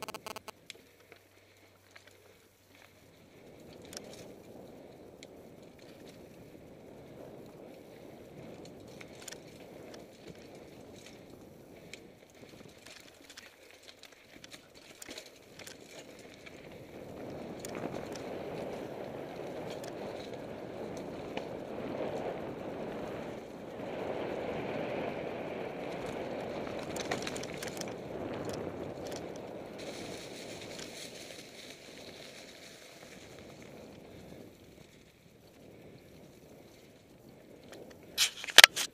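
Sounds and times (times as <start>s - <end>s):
bike tyres crunching over gravel: 0.0s - 38.9s.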